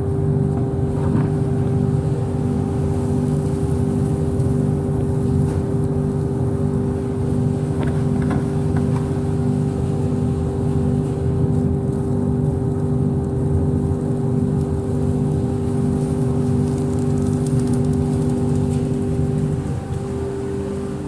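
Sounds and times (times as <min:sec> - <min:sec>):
dust extraction system humming: 0:00.0 - 0:21.0.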